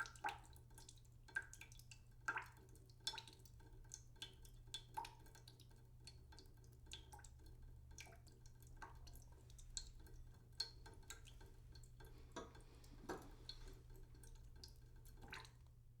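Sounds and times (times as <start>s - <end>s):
water dripping into a pot: 0.0s - 16.0s.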